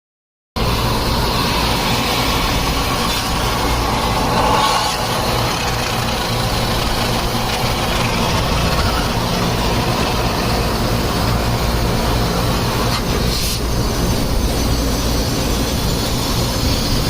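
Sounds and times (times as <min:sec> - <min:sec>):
low drone: 0:00.6 - 0:17.0
machine hum and whir: 0:00.6 - 0:17.0.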